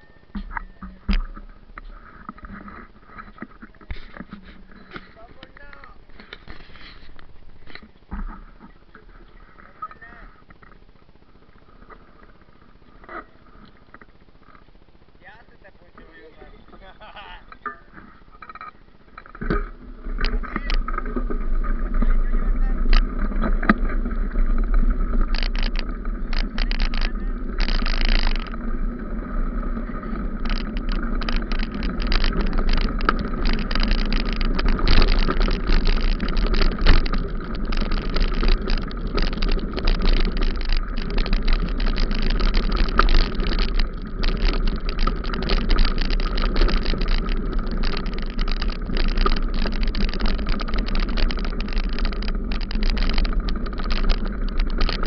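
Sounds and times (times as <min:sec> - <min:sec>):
wind and road noise rumble: 0:01.0 - 0:55.0.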